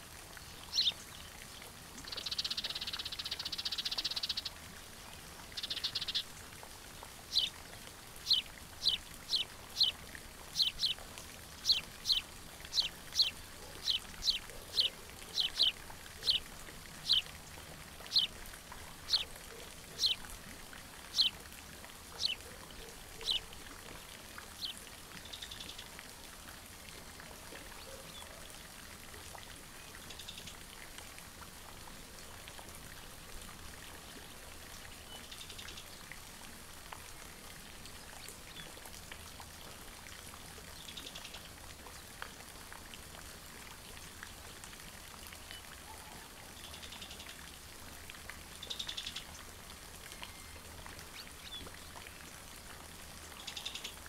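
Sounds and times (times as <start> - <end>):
faint background hiss: 0.0 - 54.0.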